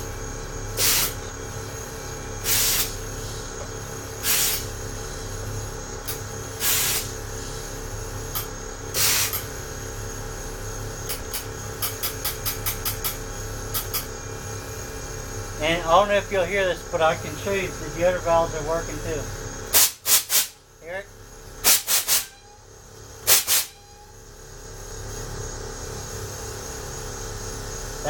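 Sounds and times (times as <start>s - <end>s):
air valves hissing: 0.0s - 28.0s.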